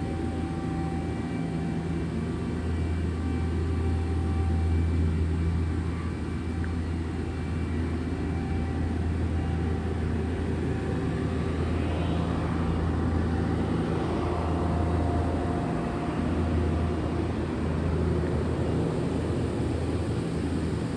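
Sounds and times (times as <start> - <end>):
faint whining tones: 0.0 - 20.9
low machinery hum: 0.0 - 20.9.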